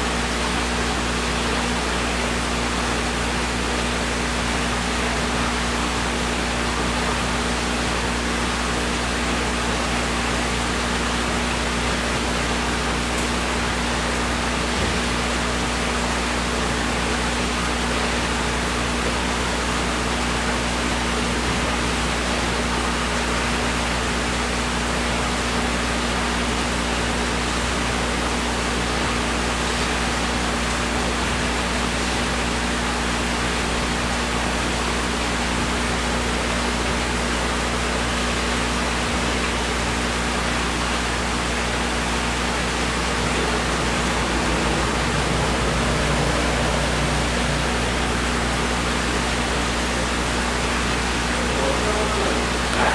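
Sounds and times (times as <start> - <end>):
pump motor hum: 0.0 - 52.9
water rushing: 0.0 - 52.9.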